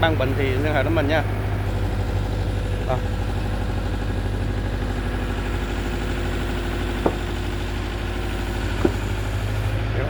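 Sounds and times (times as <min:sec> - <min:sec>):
heavy machine engine idling: 0:00.0 - 0:10.0.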